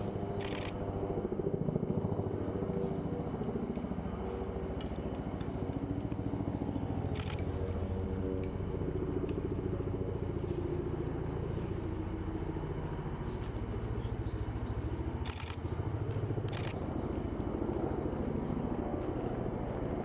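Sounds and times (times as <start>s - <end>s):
low mechanical drone with flutter: 0.0s - 20.0s.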